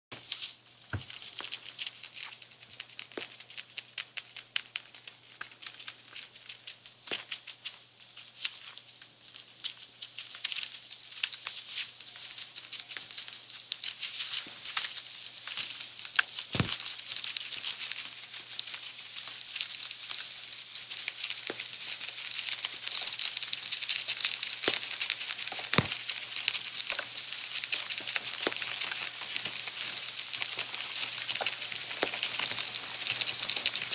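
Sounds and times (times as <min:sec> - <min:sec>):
rats gnawing corn: 0:00.1 - 0:33.9.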